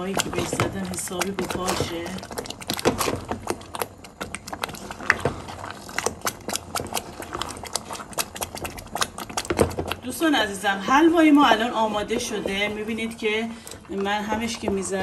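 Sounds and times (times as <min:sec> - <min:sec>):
utensil scraping and knocking pot: 0:00.0 - 0:15.0.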